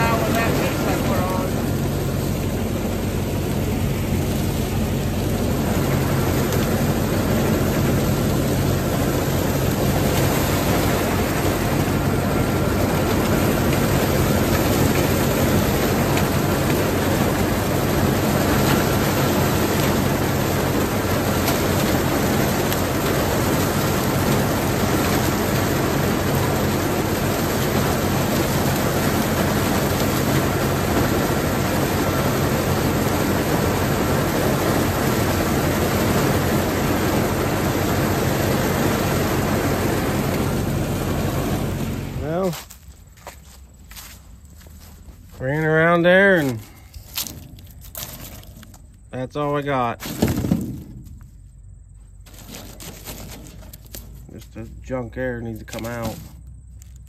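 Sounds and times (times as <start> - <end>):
corn picker mechanical clatter: 0.0 - 57.0
tractor engine running under load: 0.0 - 57.0.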